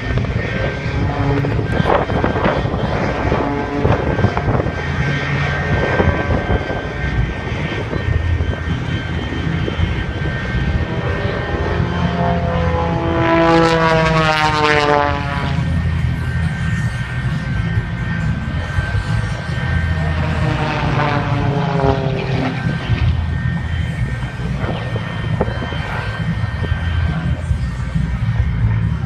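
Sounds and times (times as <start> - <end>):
propeller airplane engine drone: 0.0 - 29.0.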